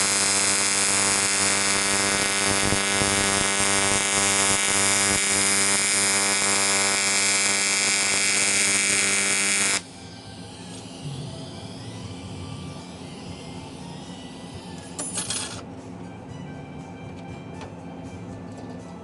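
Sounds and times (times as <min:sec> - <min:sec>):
welding arc buzzing: 0:00.0 - 0:15.6.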